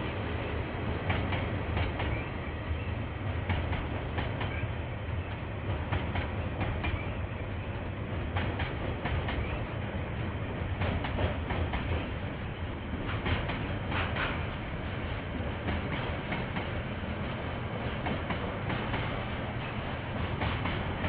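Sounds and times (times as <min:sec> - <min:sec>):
train wagons rumbling past: 0:00.0 - 0:21.0.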